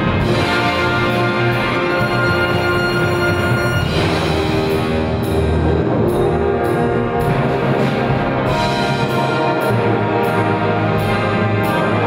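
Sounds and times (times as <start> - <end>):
brass band playing chords: 0.0 - 12.0.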